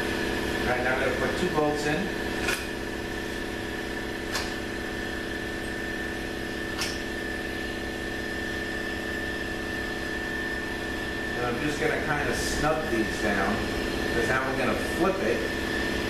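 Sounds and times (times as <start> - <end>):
machine hum with high whine: 0.0 - 16.0.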